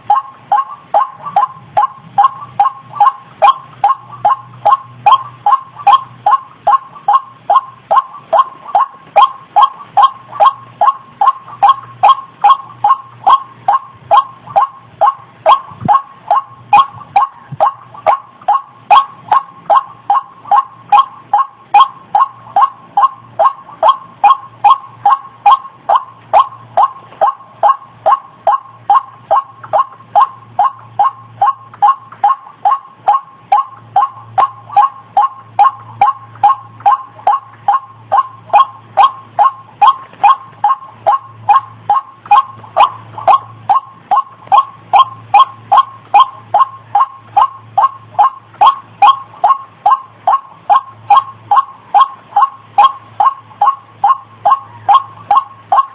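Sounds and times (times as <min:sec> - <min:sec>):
bird call: 0:00.0 - 0:55.9.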